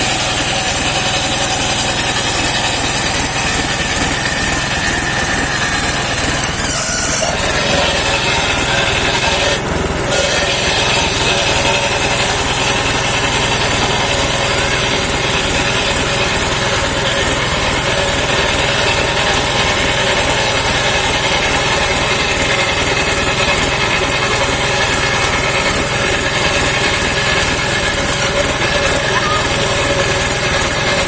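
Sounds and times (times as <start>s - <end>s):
sawmill engine running: 0.0s - 31.0s.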